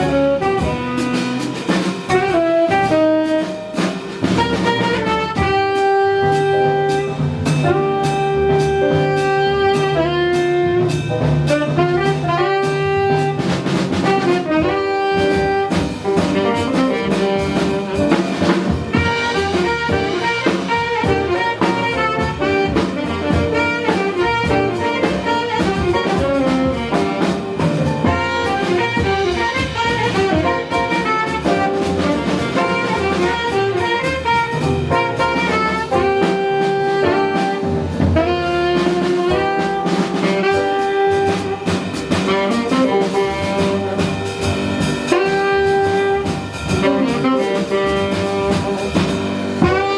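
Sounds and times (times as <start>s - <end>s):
jazz band playing: 0.0s - 49.9s
saxophone: 0.0s - 49.9s.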